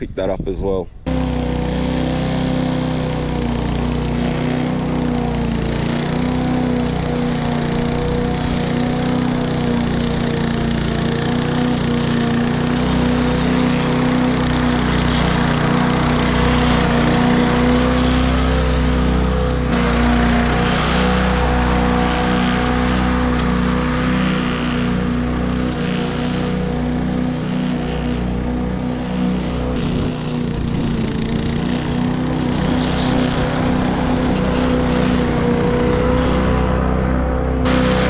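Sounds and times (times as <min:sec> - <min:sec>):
lawn mower engine running: 0:01.1 - 0:38.0.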